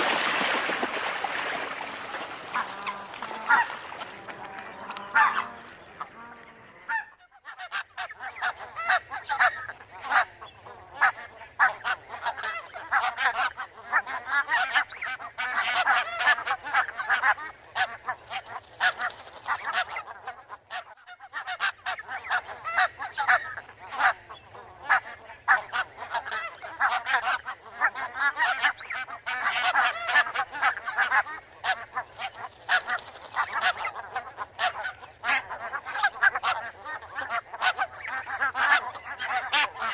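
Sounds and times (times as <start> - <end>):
geese honking: 0.0 - 39.9.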